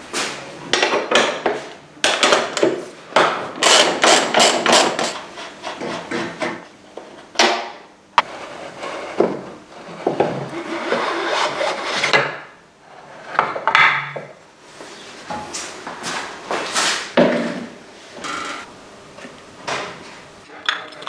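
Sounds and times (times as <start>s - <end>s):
tools scraping and clunking: 0.0s - 7.3s, 8.2s - 20.4s.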